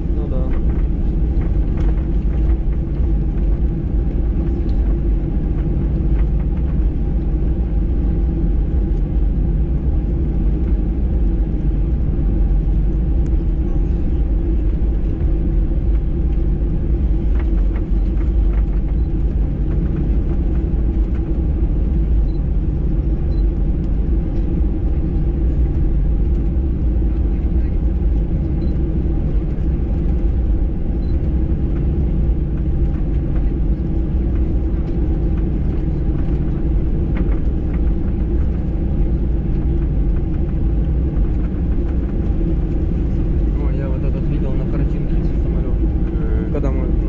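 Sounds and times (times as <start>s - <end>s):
airliner cabin engine roar: 0.0s - 47.0s.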